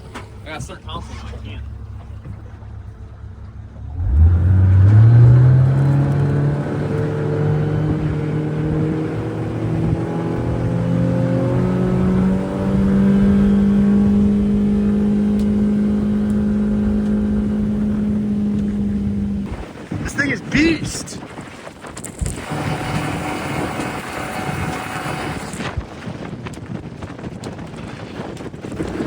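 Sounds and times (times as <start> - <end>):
motorboat engine at full throttle: 0.0 - 29.0
rush of wind and water: 0.0 - 29.0.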